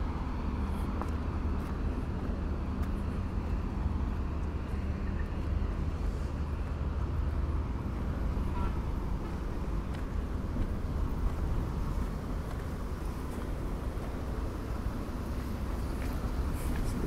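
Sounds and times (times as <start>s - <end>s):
low engine hum: 0.0s - 17.0s
outdoor street noise: 0.0s - 17.0s.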